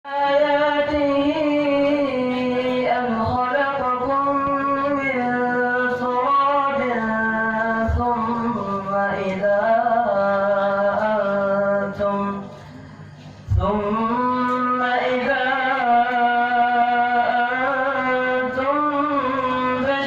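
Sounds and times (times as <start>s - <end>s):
person chanting melodically: 0.1s - 20.0s.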